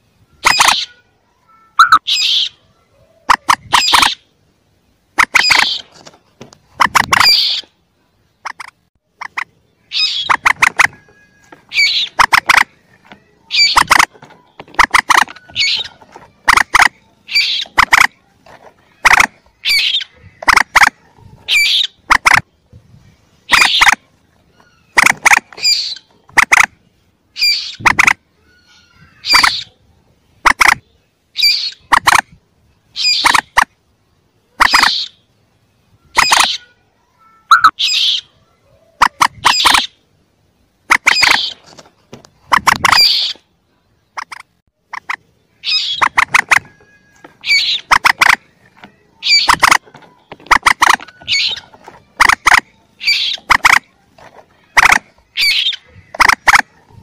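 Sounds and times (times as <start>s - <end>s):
sharp bird calls: 0.0s - 57.0s.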